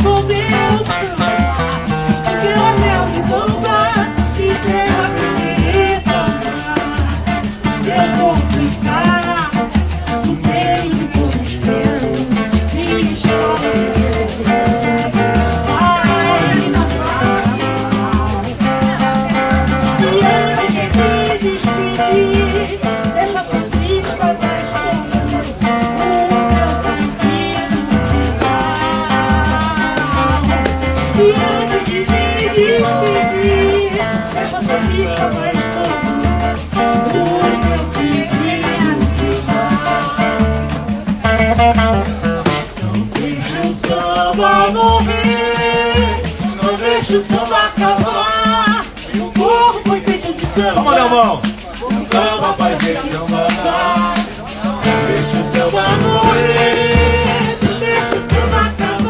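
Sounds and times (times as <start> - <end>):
woman singing: 0.0 - 40.6, 43.2 - 51.1, 52.0 - 59.0
hand drum steady low beat: 0.0 - 51.4, 52.0 - 59.0
acoustic guitar: 0.0 - 59.0
frame drum: 0.0 - 59.0
shaker: 0.0 - 59.0.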